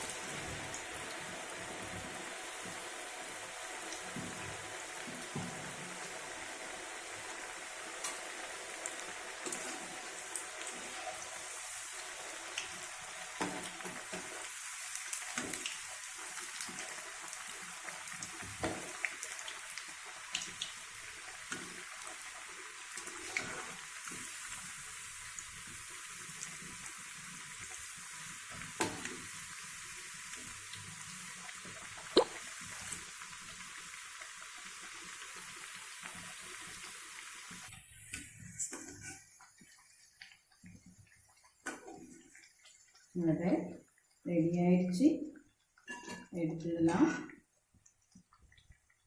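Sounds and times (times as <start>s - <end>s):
food deep-frying in oil: 0.0s - 49.0s.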